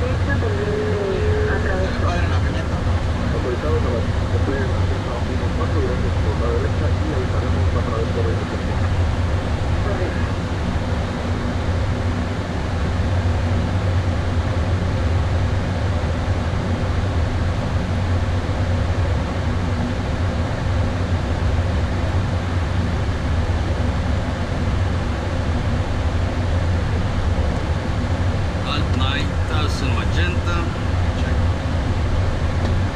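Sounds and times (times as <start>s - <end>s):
air-conditioning: 0.0s - 32.9s
low hum: 0.0s - 32.9s.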